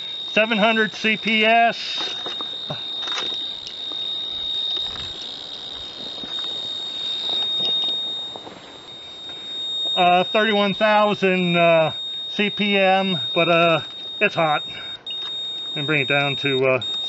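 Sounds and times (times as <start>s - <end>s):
radiation meter clicks buzzing: 0.0s - 17.0s.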